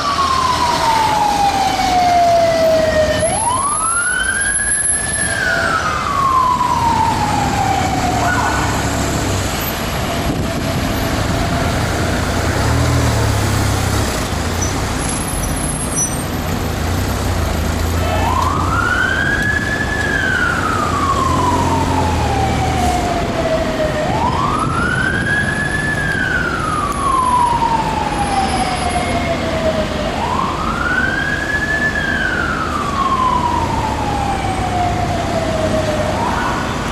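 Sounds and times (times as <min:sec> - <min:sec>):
police siren wailing: 0:00.0 - 0:13.4, 0:17.8 - 0:36.9
low rumble of traffic engines: 0:00.0 - 0:36.9.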